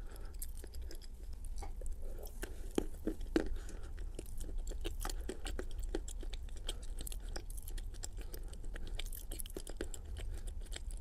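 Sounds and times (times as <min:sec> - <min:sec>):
person chewing wet paste: 0:00.0 - 0:11.0.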